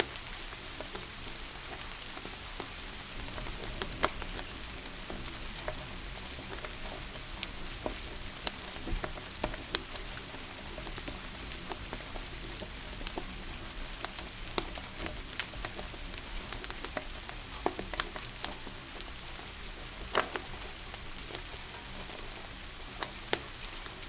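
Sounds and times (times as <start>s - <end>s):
steady rain: 0.0s - 24.0s
wood fire crackling and popping: 0.0s - 24.0s.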